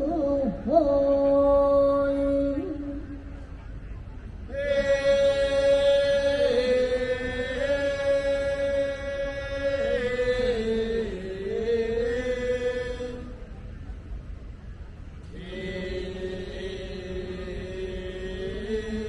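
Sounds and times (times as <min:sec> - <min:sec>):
person chanting long note: 0:00.0 - 0:14.0, 0:15.3 - 0:19.0.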